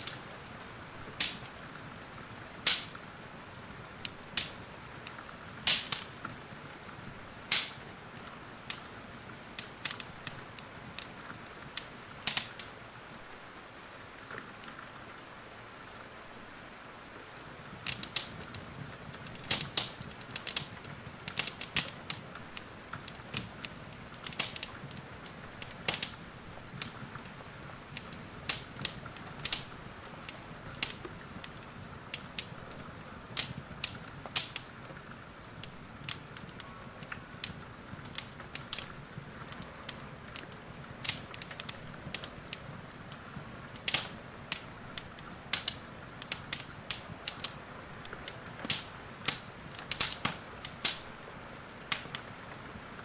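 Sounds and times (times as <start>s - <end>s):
wood fire crackling and popping: 0.0s - 12.8s, 17.6s - 53.0s
rain hissing: 0.0s - 53.0s.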